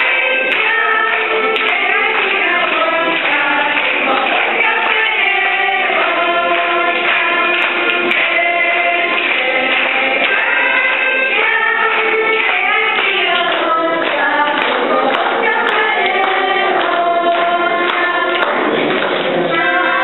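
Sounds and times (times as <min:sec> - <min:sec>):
children singing a folk song: 0:00.0 - 0:20.0.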